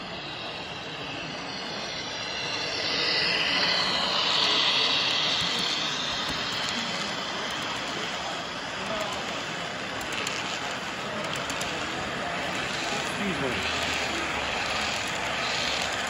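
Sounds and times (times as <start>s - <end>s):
model train running past: 0.0s - 16.0s.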